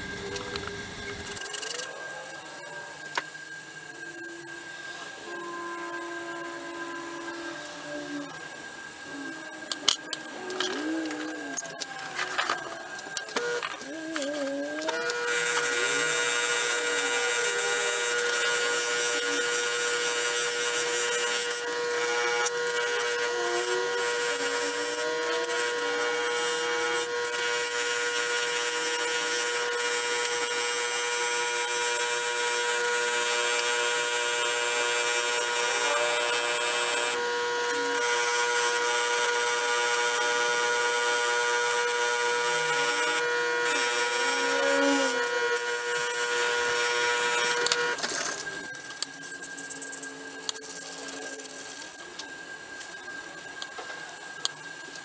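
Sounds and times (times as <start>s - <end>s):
electric power tool whining: 0.0s - 55.0s.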